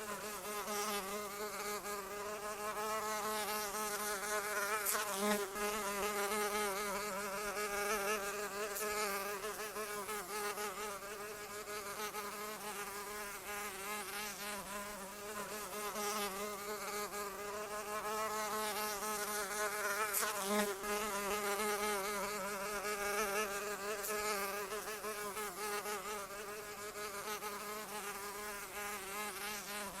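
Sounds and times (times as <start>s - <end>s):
fly buzzing: 0.0s - 30.0s.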